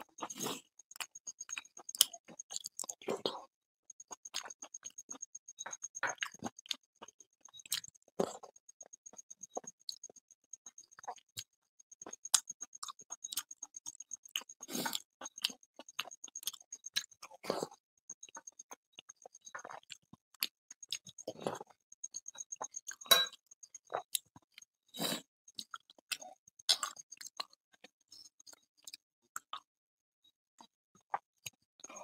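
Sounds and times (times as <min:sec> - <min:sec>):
person chewing with wet mouth sounds: 0:00.0 - 0:29.7, 0:30.6 - 0:32.0.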